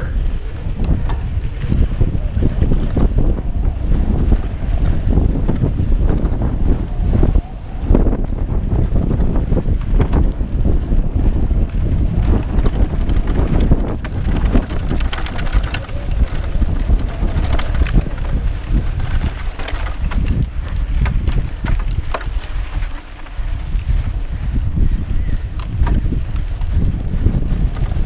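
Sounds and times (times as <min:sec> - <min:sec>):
bike clicks and rattles: 0:00.0 - 0:28.0
bike tyres rumbling on dirt: 0:00.0 - 0:28.0
wind buffeting microphone: 0:00.0 - 0:28.0.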